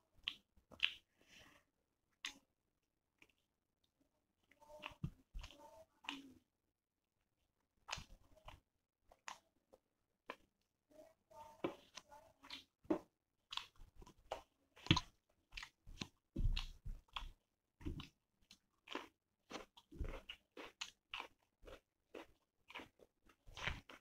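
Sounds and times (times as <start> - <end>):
person chewing crunchy food: 0.0 - 6.4, 7.5 - 10.7, 11.5 - 24.0.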